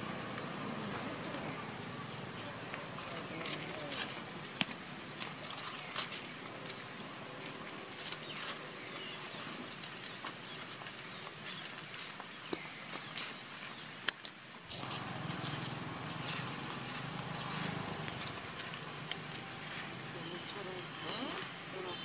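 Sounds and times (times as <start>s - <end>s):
crackles of animals on dry leaves: 0.0s - 22.0s
deep background noise: 0.0s - 22.0s.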